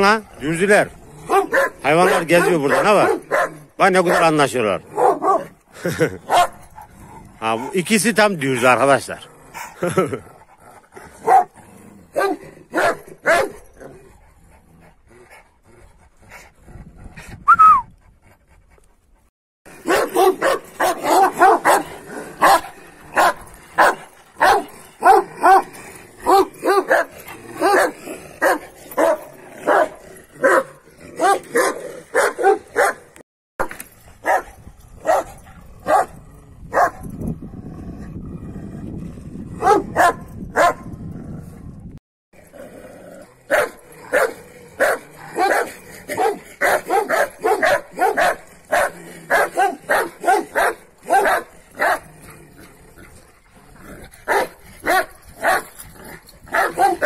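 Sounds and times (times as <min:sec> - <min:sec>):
large dogs barking: 0:00.0 - 0:16.5, 0:19.7 - 0:33.2, 0:34.2 - 0:37.1, 0:39.5 - 0:40.9, 0:43.1 - 0:57.0.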